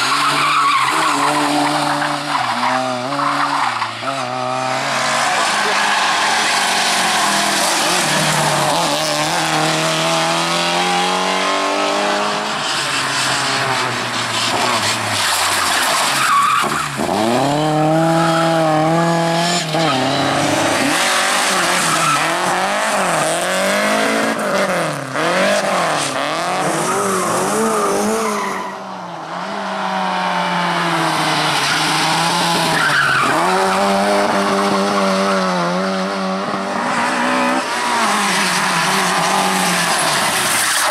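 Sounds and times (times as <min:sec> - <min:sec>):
rally car engine revving: 0:00.0 - 0:40.9
tyres squealing and skidding: 0:00.0 - 0:40.9.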